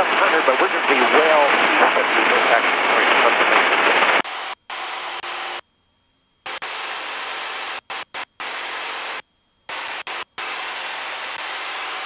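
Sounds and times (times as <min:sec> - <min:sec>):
headset intercom hiss: 0:00.0 - 0:05.6, 0:06.4 - 0:12.0.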